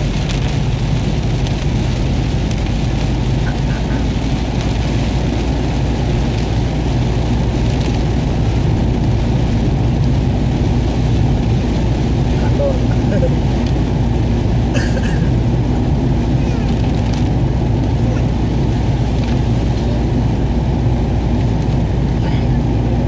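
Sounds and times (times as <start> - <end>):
engine and tyres rumbling: 0.0 - 23.0
rain on car roof: 0.0 - 23.0.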